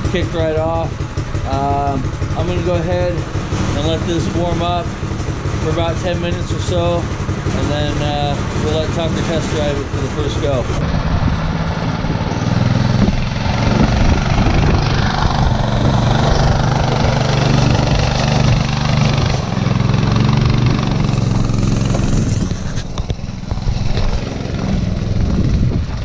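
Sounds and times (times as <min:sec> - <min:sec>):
go-kart engine drone: 0:00.0 - 0:26.0.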